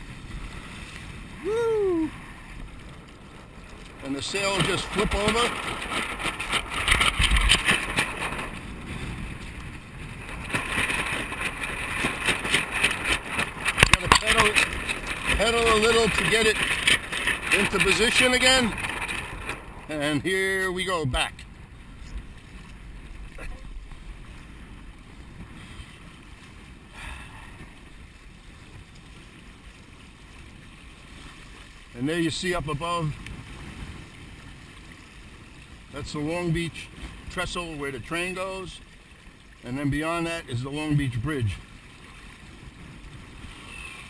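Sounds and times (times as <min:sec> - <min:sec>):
gusty wind: 0:00.0 - 0:44.0
water splashing: 0:00.0 - 0:44.0.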